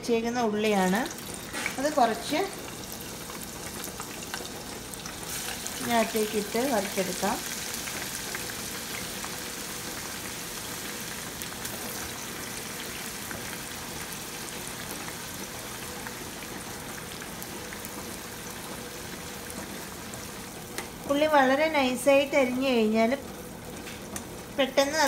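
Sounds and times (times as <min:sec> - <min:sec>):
onions sizzling in hot oil: 0:00.4 - 0:25.0.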